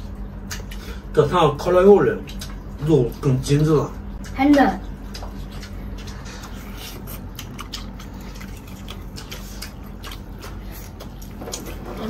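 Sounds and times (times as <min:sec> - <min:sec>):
chewing with wet mouth smacks: 0:00.0 - 0:01.0, 0:02.1 - 0:12.0
low steady hum: 0:00.0 - 0:12.0.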